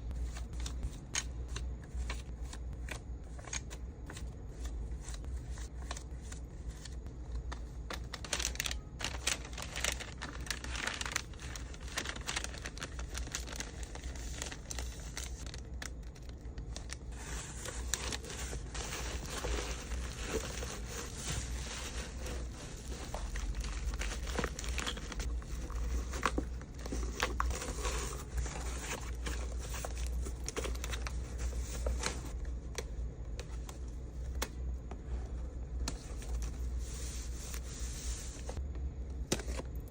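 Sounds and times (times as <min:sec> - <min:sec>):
plastic and paper crinkling: 0:00.1 - 0:33.8.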